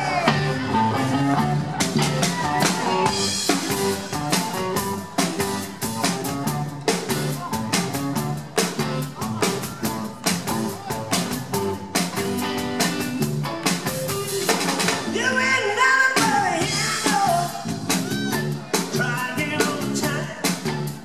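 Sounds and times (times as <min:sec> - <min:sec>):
drum kit steady beat: 0:00.0 - 0:15.3, 0:16.1 - 0:21.0
electric bass: 0:00.0 - 0:21.0
electric guitar: 0:00.0 - 0:21.0.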